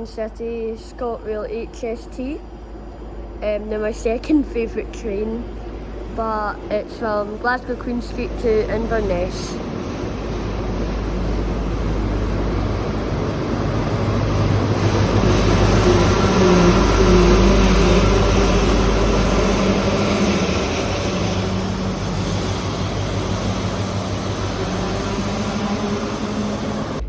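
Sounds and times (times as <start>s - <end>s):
diesel train engine humming: 0.0s - 27.0s.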